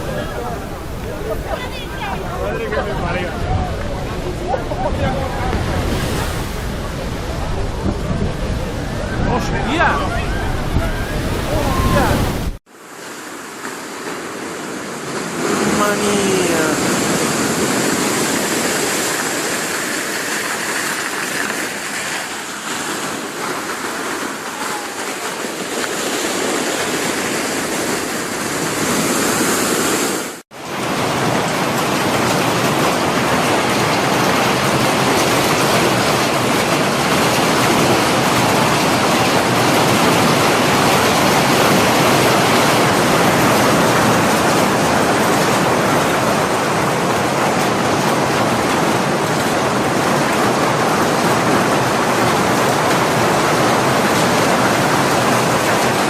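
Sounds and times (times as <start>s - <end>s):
stormy sea waves breaking: 0.0s - 56.0s.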